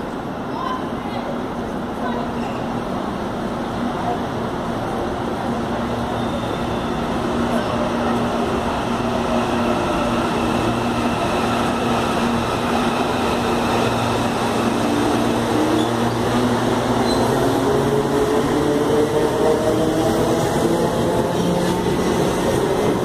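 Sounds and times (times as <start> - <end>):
electric train humming: 2.8 - 23.0.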